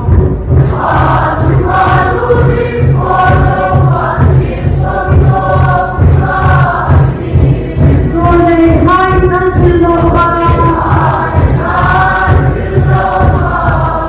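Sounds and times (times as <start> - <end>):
choir singing a hymn: 0.0 - 14.0
low bass accompaniment: 0.0 - 14.0.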